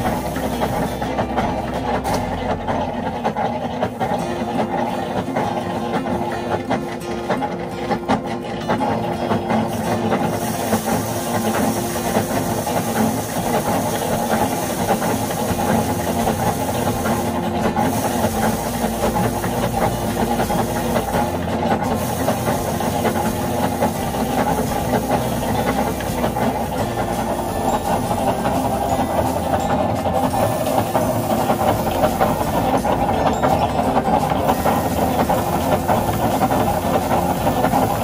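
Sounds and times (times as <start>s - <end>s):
rice thresher drum whirring: 0.0s - 38.0s.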